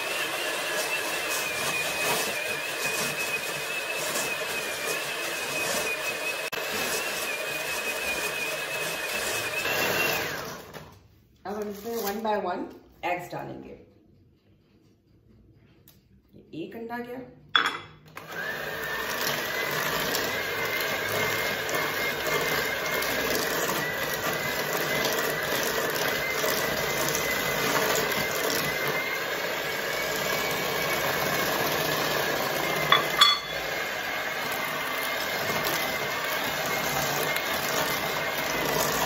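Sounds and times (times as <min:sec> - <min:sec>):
electric mixer whirring: 0:00.0 - 0:11.1, 0:18.1 - 0:39.0.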